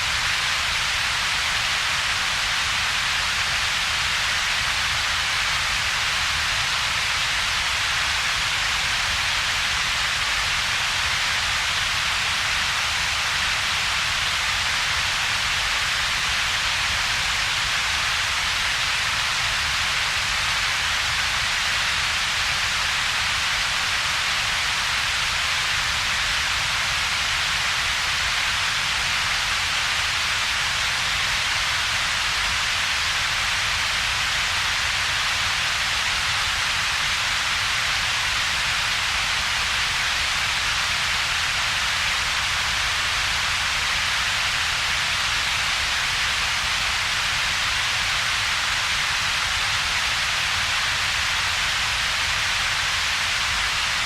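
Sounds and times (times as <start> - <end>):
high synthetic hiss: 0.0 - 54.0.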